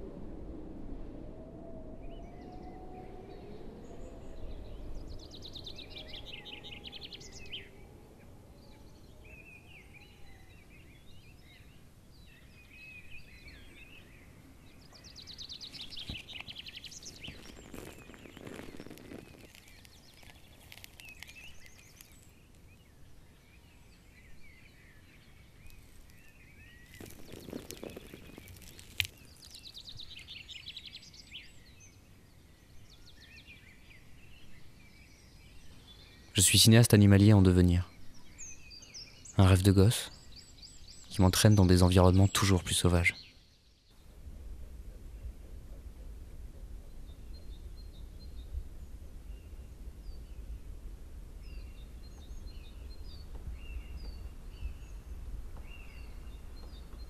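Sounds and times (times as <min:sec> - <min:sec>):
small birds trilling and chattering: 0:02.0 - 0:57.0.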